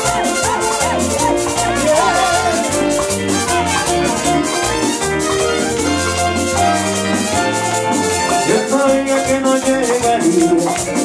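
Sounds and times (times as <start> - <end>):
latin band playing: 0.0 - 11.0
shaker rattling: 0.0 - 11.0.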